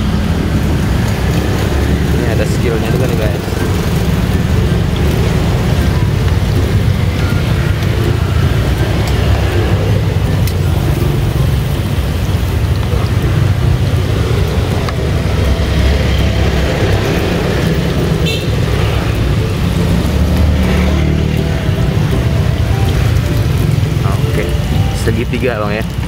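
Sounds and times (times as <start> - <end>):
hot oil sizzling in a pan: 0.0 - 26.0.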